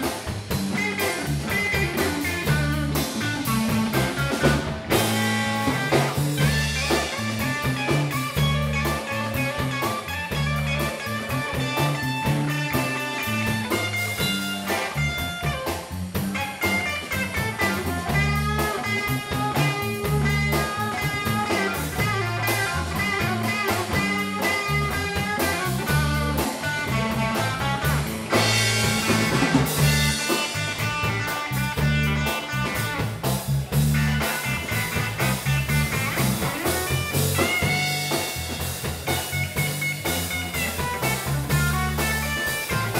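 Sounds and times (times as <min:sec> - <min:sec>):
drum kit: 0:00.0 - 0:42.9
electric bass: 0:00.0 - 0:42.9
electric guitar lead: 0:00.0 - 0:42.9.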